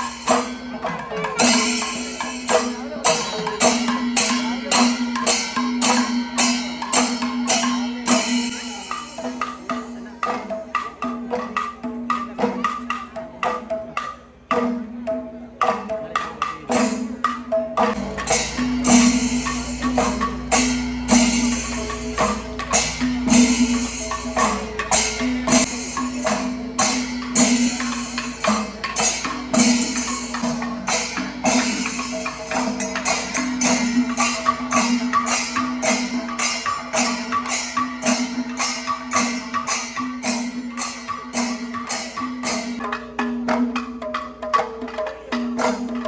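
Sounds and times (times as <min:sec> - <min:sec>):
sharp drum strokes: 0:00.0 - 0:14.8, 0:15.6 - 0:44.0.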